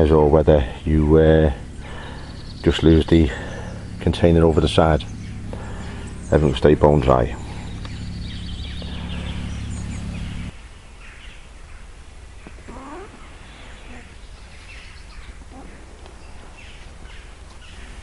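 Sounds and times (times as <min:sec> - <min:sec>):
birds calling and chirping: 0:00.0 - 0:18.0
steady low hum: 0:00.0 - 0:18.0.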